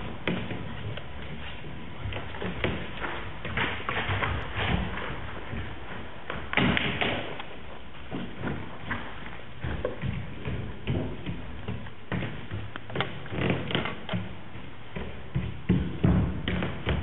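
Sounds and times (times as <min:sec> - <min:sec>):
footsteps and stamps on stage: 0:00.0 - 0:17.0.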